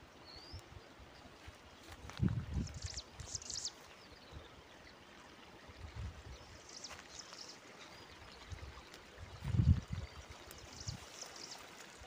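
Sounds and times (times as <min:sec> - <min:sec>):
birds chirping: 0:00.0 - 0:05.3, 0:06.2 - 0:12.0.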